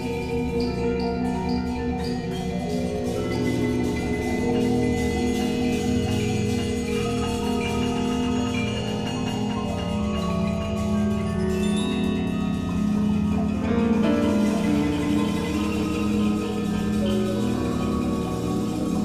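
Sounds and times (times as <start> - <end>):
marimbas and mallet percussion: 0.0 - 19.0
piano: 0.0 - 19.0.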